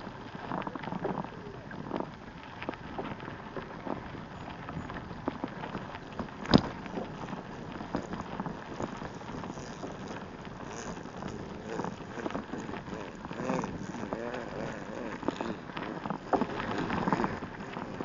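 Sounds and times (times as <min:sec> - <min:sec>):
bicycle tyres rolling on path: 0:00.0 - 0:18.0
small rattles and ticks: 0:00.0 - 0:18.0
wind on microphone: 0:00.0 - 0:18.0.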